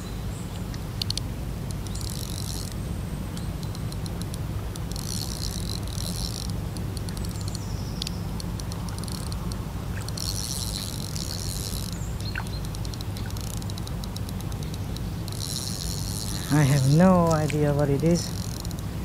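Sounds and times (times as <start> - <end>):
steady low rumble: 0.0 - 19.0
fishing reel buzzing and clicking: 0.7 - 18.9.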